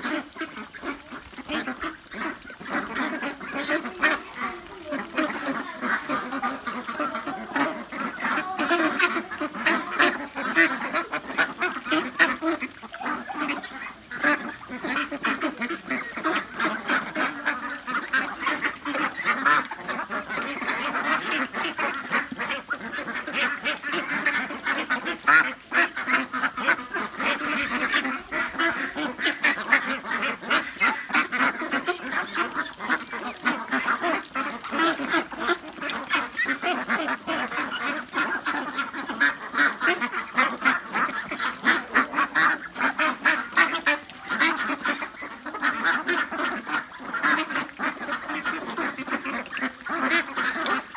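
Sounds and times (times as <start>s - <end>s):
ducklings quacking: 0.0s - 50.9s.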